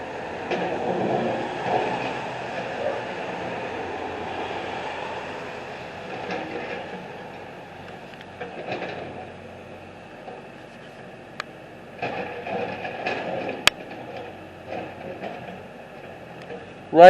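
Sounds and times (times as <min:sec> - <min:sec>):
heavy construction machinery rumbling: 0:00.0 - 0:17.0.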